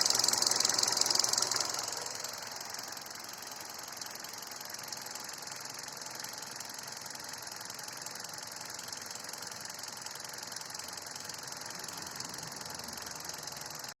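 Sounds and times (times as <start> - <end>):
car engine running: 0.0 - 14.0
fast ticking engine knock: 0.0 - 14.0.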